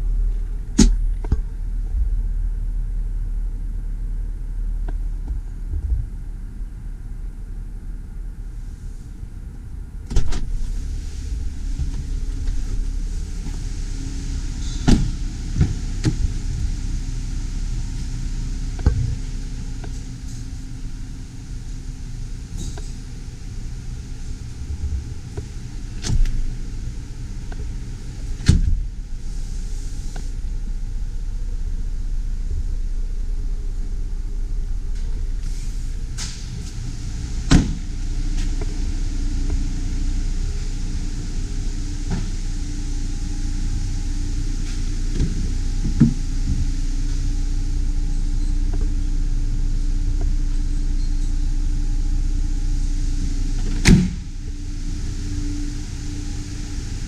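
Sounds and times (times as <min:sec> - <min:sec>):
steady hum: 0:00.0 - 0:57.0
vehicle engine rumble: 0:00.0 - 0:57.0.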